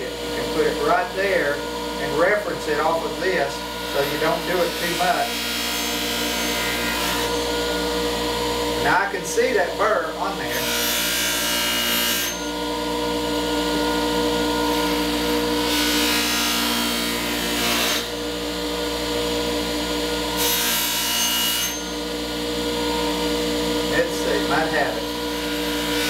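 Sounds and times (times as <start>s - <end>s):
bench grinder motor humming: 0.0s - 26.0s.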